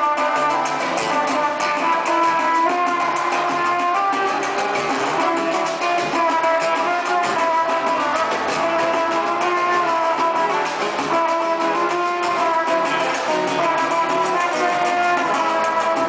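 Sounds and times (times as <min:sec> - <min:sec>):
guitar melody: 0:00.0 - 0:16.0
samba-rock music: 0:00.0 - 0:16.0
steady percussion: 0:00.0 - 0:16.0.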